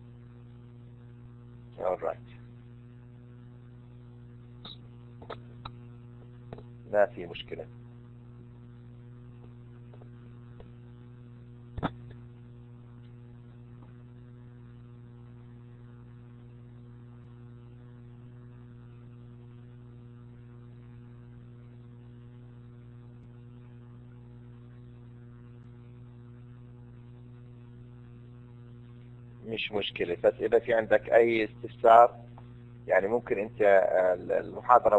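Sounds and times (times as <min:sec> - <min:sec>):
electrical mains hum: 0:00.0 - 0:34.9.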